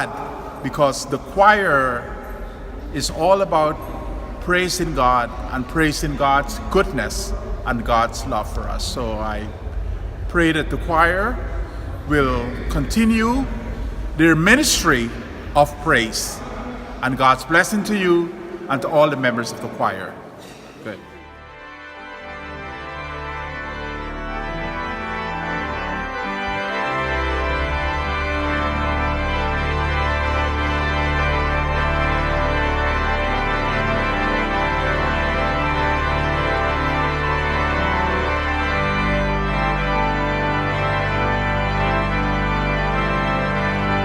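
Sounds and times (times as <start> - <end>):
deep organ bass notes: 0.0 - 20.0, 20.9 - 44.0
organ chords: 0.0 - 44.0.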